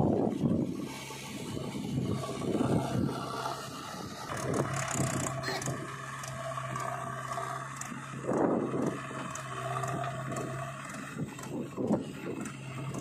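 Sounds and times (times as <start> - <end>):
diesel engines humming: 0.0 - 13.0.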